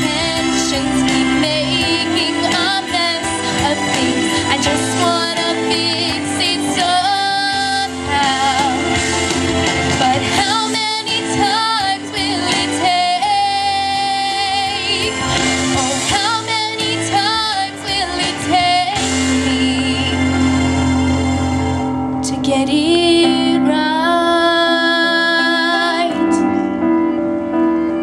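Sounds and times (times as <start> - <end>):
girl singing pop ballad: 0.0 - 20.8, 22.1 - 27.2
musical accompaniment: 0.0 - 28.0.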